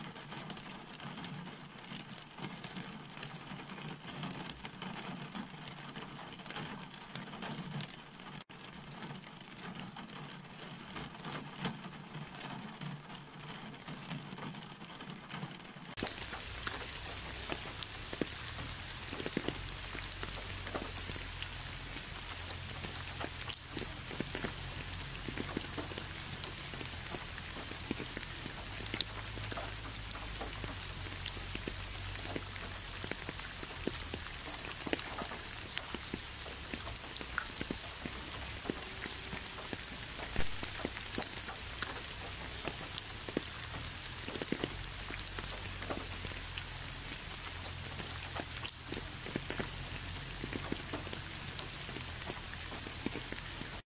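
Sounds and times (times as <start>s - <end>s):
rain falling: 0.0s - 53.8s
raindrops ticking: 0.0s - 53.8s.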